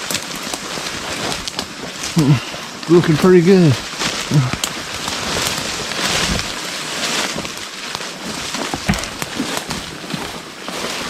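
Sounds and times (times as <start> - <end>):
branches snapping: 0.0 - 11.0
brush rustling and swishing: 0.0 - 11.0.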